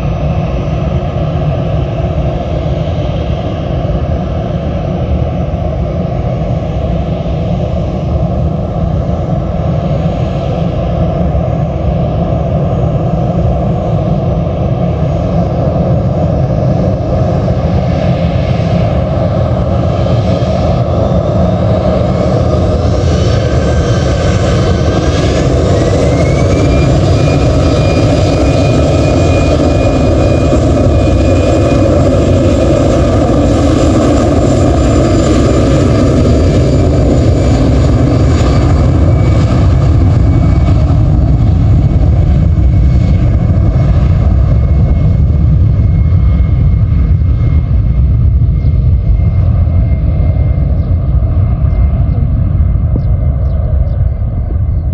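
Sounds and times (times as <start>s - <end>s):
jet engine whine: 0.0s - 54.9s
jet engines roaring: 0.0s - 54.9s.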